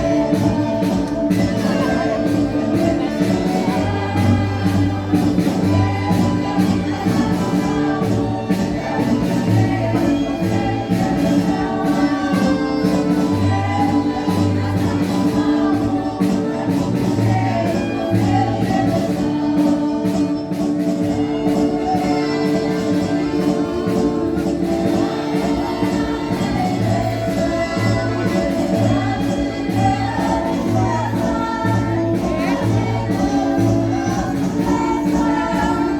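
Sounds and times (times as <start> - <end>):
group singing: 0.0 - 35.9
marching band accompaniment: 0.0 - 35.9.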